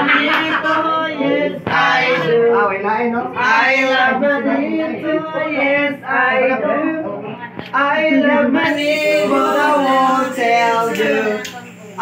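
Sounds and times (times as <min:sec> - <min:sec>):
group singing unaccompanied: 0:00.0 - 0:11.6.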